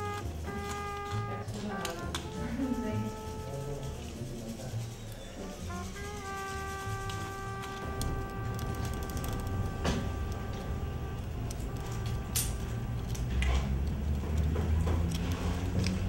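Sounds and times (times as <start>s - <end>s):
held drone note: 0.0s - 13.9s.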